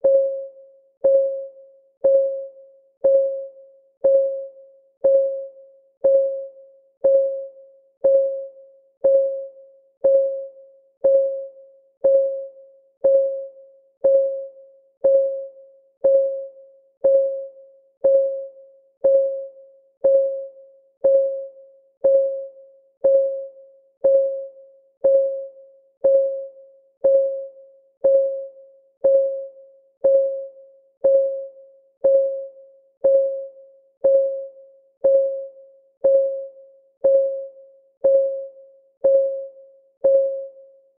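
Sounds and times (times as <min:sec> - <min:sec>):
countdown timer ticking: 0:02.0 - 0:02.4, 0:03.0 - 0:03.4, 0:04.0 - 0:04.4, 0:05.0 - 0:40.6.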